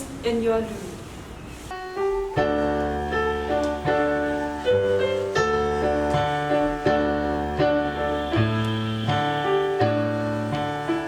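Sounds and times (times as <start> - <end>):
keyboard playing chords: 1.8 - 11.0.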